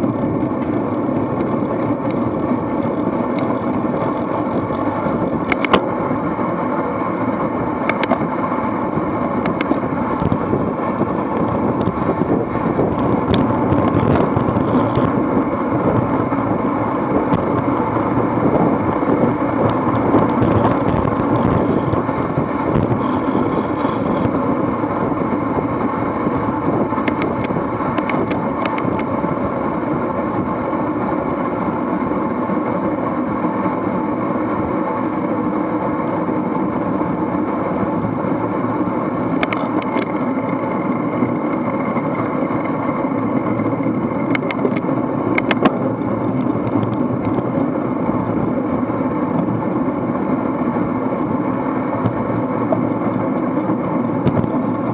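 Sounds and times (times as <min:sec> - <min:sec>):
bicycle tyres on pavement: 0:00.0 - 0:54.9
wind rushing over microphone: 0:00.0 - 0:54.9.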